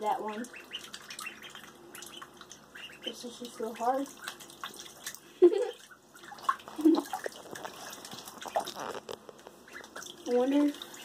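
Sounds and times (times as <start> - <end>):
ducklings splashing in water: 0.0 - 11.0.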